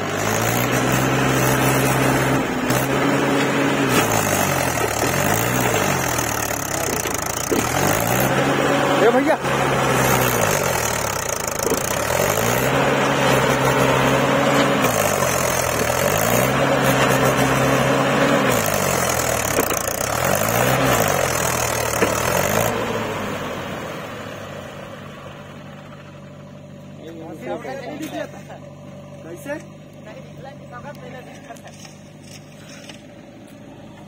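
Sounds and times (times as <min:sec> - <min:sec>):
tractor diesel engine straining: 0:00.0 - 0:34.0.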